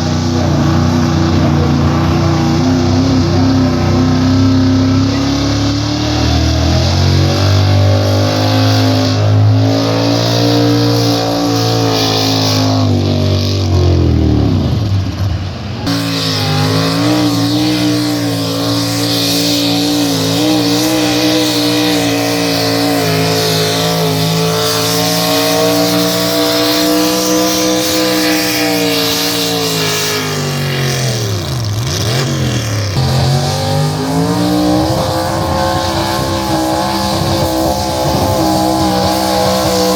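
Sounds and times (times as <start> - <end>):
engine running at high revs: 0.0 - 39.9.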